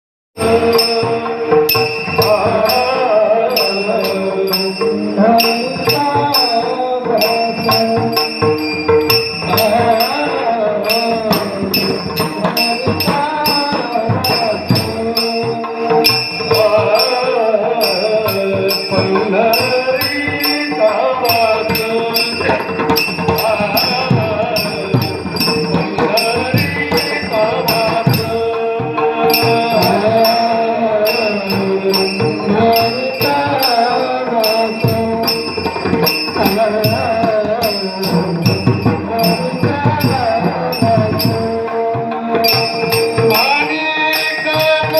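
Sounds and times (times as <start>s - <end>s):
hand cymbals striking: 0.4s - 44.9s
man singing devotional song: 0.4s - 44.9s.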